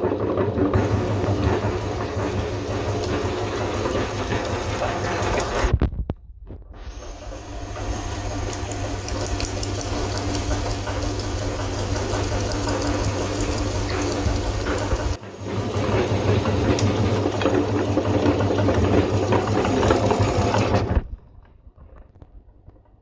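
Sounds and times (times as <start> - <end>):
electric meat grinder running: 0.0 - 5.7, 6.8 - 21.0.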